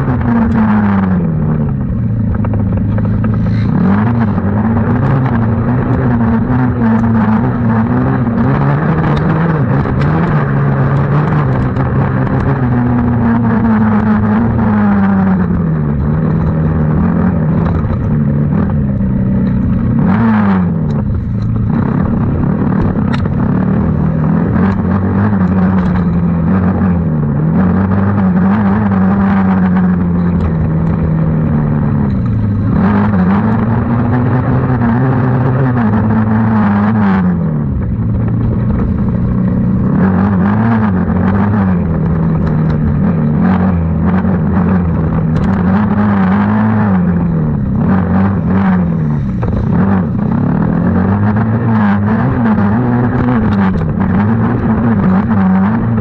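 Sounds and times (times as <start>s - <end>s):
small racing engines revving: 0.0s - 18.8s, 19.4s - 56.0s.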